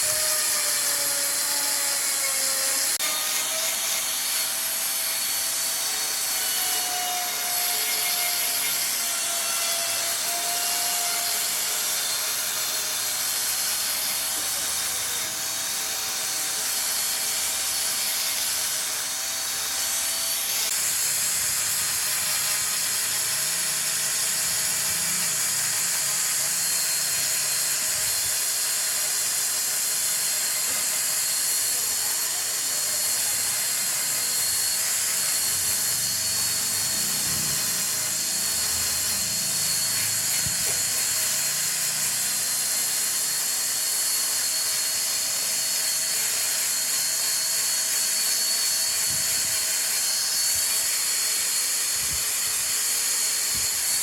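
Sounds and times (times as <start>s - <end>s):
wood lathe running: 0.0s - 54.0s.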